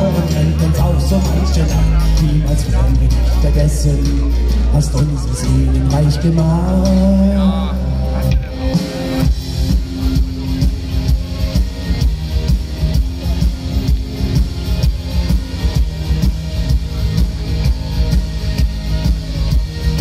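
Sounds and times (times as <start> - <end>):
drum kit beat: 0.0 - 20.0
live rock band playing: 0.0 - 20.0.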